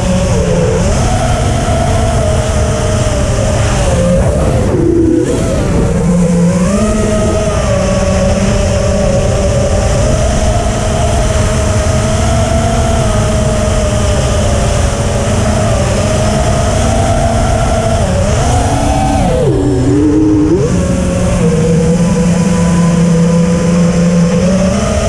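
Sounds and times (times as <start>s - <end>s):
heavy wind rumble: 0.0s - 25.0s
quadcopter motors whining: 0.0s - 25.0s.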